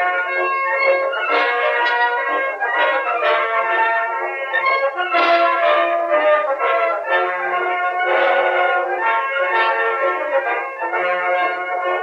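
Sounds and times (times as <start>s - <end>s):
instrumental music with sustained notes: 0.0s - 12.0s.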